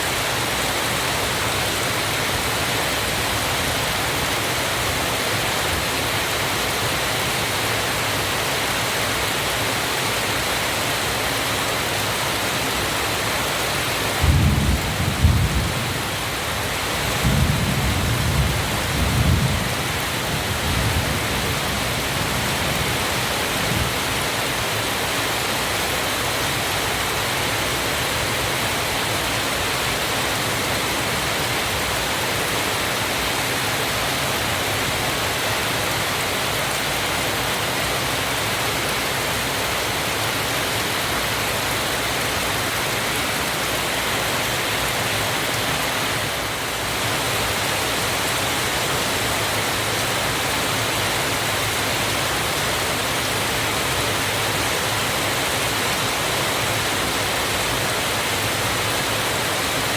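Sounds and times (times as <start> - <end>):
waterfall rushing: 0.0 - 14.6, 20.0 - 59.9.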